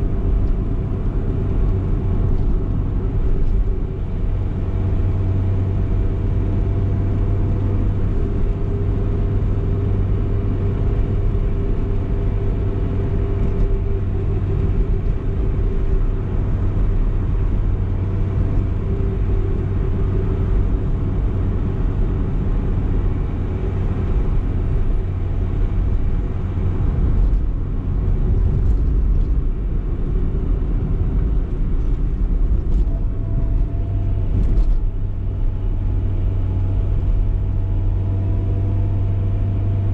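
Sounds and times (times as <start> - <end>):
car engine running: 0.0 - 39.9
road and tyre noise: 0.0 - 39.9.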